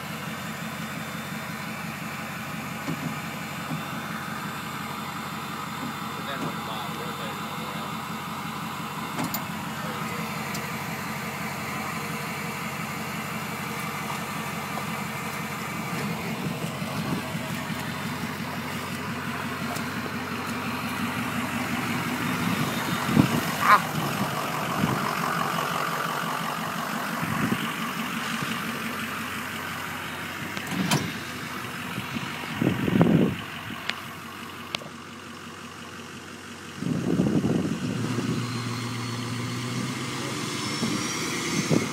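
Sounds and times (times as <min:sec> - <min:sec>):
pickup truck engine idling: 0:00.0 - 0:40.2.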